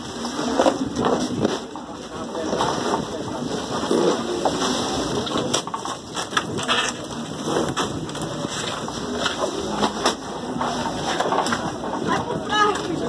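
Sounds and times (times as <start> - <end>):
crushed ice rattling and crunching: 0.0 - 13.0.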